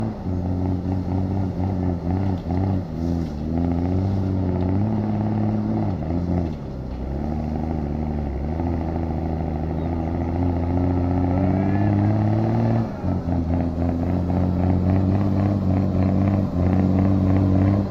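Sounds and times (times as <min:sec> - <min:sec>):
truck engine running under load: 0:00.0 - 0:17.9.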